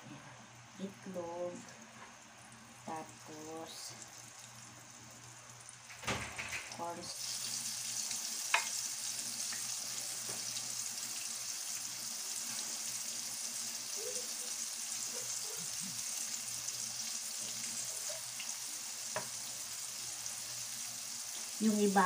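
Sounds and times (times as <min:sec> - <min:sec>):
meat deep-frying in oil: 0:00.6 - 0:22.0.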